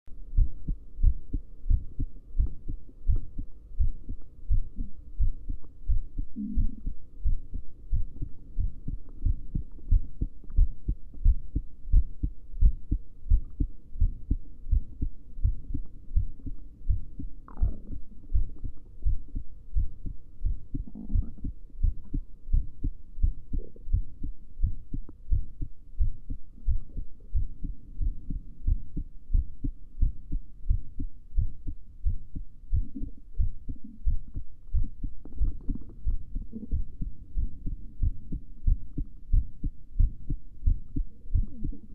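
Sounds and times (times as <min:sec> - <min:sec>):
heartbeat thumps: 0:00.2 - 0:41.9.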